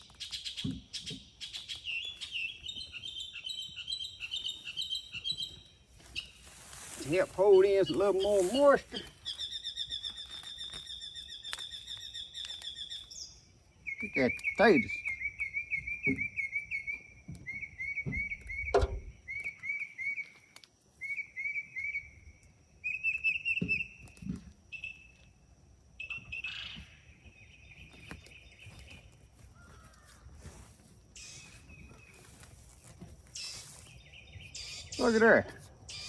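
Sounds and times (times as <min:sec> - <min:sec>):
songbird chirping: 0:00.0 - 0:36.0.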